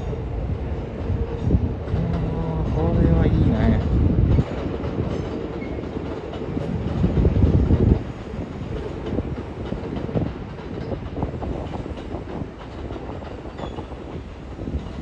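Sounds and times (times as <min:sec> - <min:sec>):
train rumbling on rails: 0:00.0 - 0:15.0
train wheel clatter: 0:00.9 - 0:15.0.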